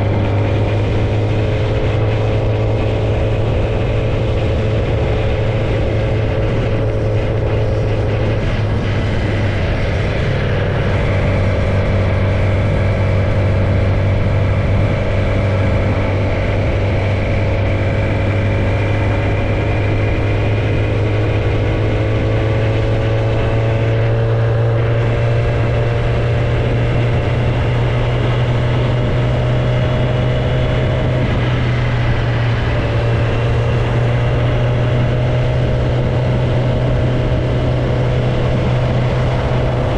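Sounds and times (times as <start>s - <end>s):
loud motorcycle engine running: 0.0s - 39.9s.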